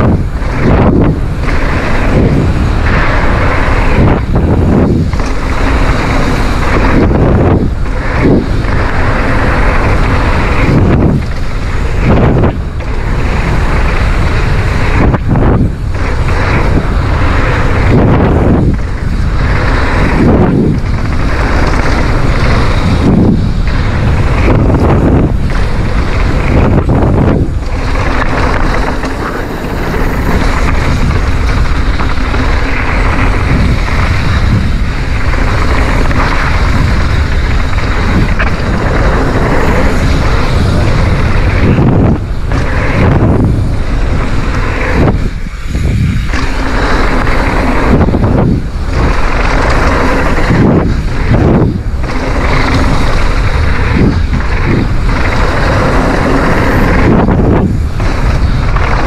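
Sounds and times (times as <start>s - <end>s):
mountain bike tyre and frame noise: 0.0s - 59.0s
wind roaring over microphone: 0.0s - 59.0s.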